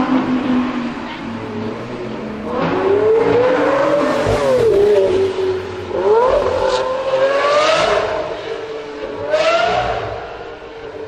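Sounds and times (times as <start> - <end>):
car engine revving: 0.1 - 10.7.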